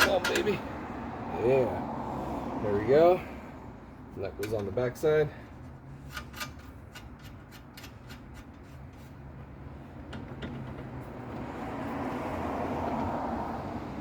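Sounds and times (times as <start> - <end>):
passing vehicle: 0.0 - 6.8, 7.5 - 14.0.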